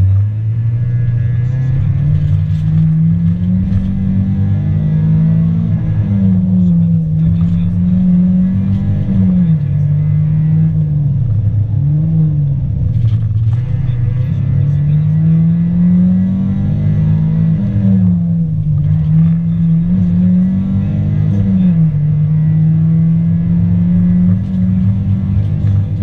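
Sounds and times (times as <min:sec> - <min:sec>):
car engine driven hard: 0:00.0 - 0:26.0.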